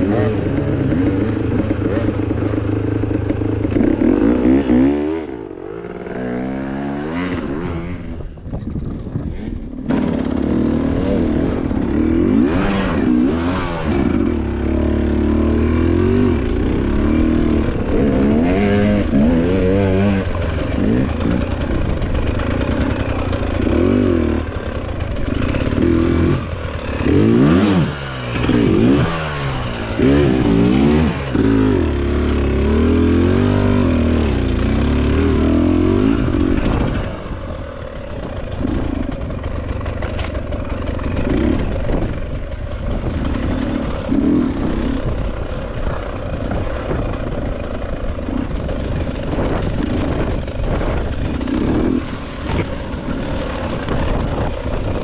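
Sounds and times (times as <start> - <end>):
dirt bike engine revving: 0.0 - 8.3, 9.3 - 55.0.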